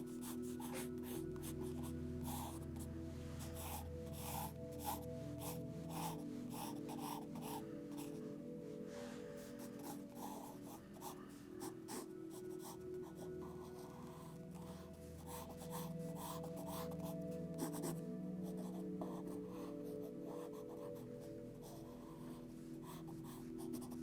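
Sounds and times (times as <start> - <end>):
pencil strokes scratching on paper: 0.0 - 24.0
soft background music: 0.0 - 24.0.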